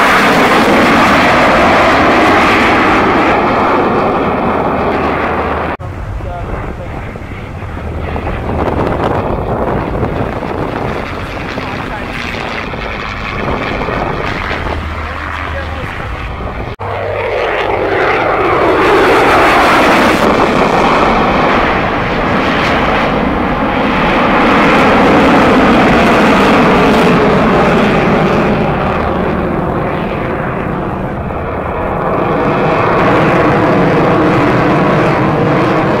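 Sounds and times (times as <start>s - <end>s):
jet engines roaring in flyby: 0.0s - 36.0s.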